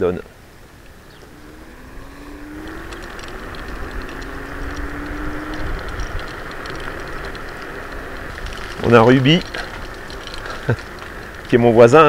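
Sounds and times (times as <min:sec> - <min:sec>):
tyres and wind rushing: 0:00.0 - 0:12.0
electric scooter motor whining: 0:00.5 - 0:12.0
light ticks: 0:00.8 - 0:12.0.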